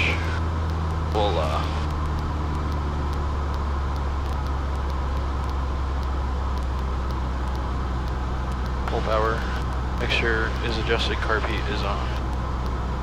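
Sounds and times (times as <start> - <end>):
plane engine and propeller drone: 0.0 - 13.0.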